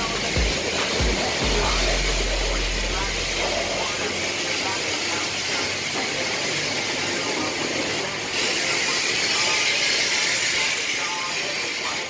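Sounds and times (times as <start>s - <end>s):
high-pressure water spray hissing: 0.0s - 12.0s.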